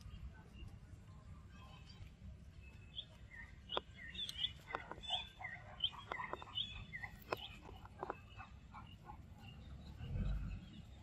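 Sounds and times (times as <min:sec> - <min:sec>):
high chirping calls: 0:01.4 - 0:11.0.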